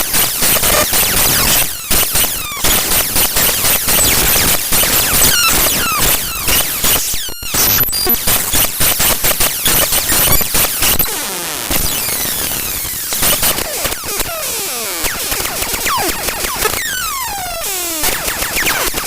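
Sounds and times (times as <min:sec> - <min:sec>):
harsh digital noise with clicks: 0:00.0 - 0:19.0.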